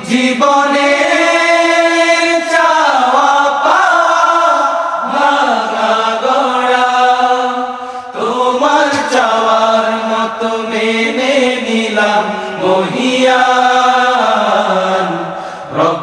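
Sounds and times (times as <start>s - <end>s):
men singing unaccompanied: 0.0s - 16.0s.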